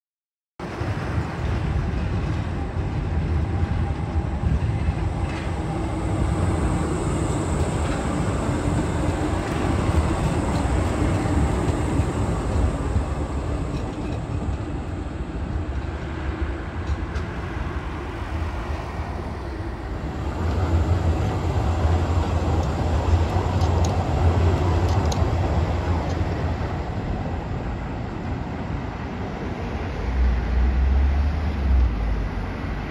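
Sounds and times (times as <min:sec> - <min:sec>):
faint high tram whine: 0:00.6 - 0:32.9
road traffic: 0:00.6 - 0:32.9
tram rolling rumble: 0:00.6 - 0:32.9.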